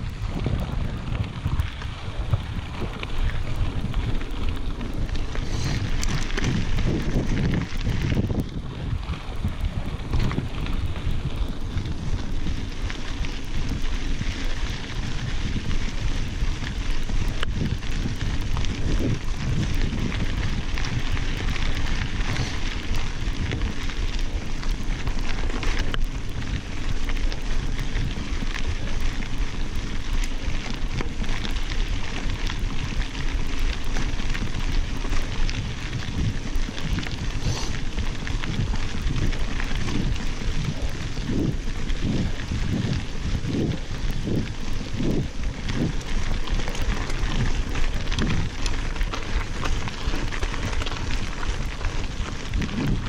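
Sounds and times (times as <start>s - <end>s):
bike tyres crunching on gravel: 0.0s - 53.0s
wind on microphone: 0.0s - 53.0s.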